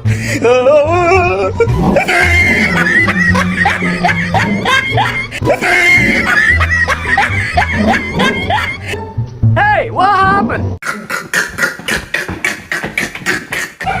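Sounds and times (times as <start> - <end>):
background music: 0.0 - 14.0
screaming and squealing laughter: 0.1 - 9.0, 10.8 - 14.0.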